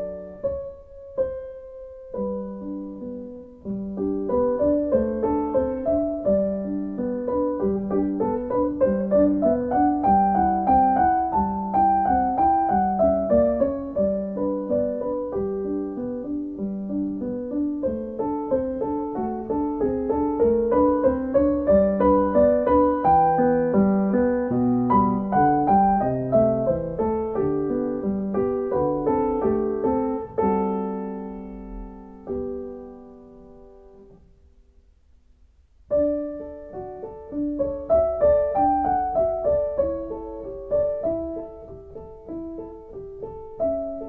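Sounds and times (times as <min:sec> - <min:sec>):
solo piano music: 0:00.0 - 0:44.0.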